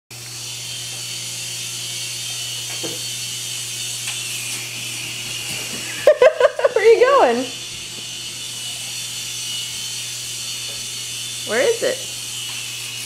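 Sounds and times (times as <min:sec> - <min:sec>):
toy helicopter motor whirring: 0:00.2 - 0:13.0.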